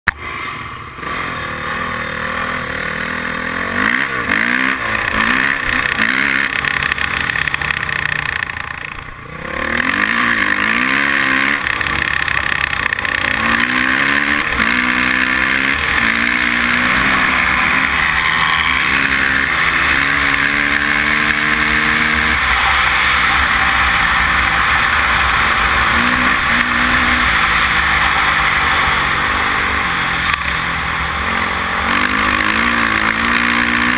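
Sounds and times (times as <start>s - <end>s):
dirt bike engine accelerating: 0.1s - 33.9s.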